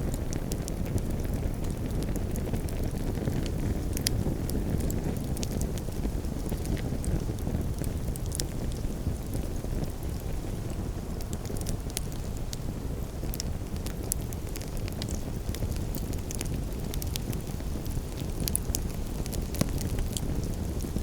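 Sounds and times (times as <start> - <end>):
campfire crackling: 0.0 - 21.0
low rushing rumble of fire: 0.0 - 21.0.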